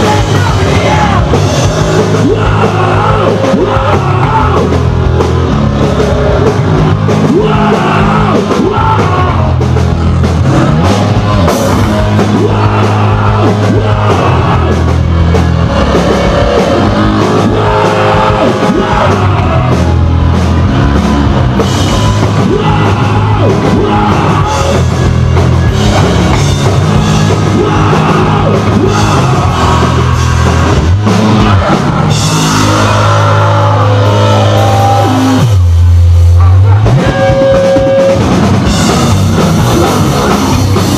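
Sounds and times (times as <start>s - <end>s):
shouted vocals: 0.0s - 35.6s, 36.3s - 40.9s
distorted guitar and bass: 0.0s - 40.9s
pounding drum kit: 0.0s - 40.9s.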